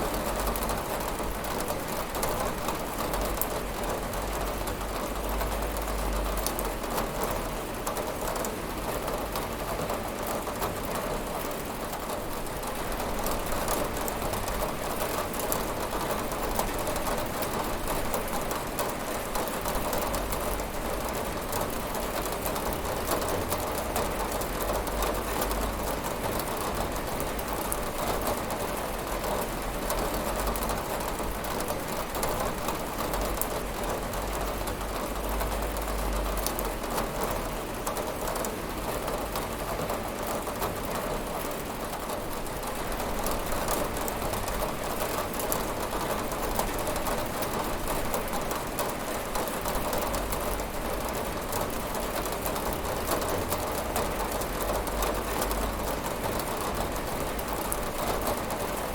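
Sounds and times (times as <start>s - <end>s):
rain on a window: 0.0s - 58.9s.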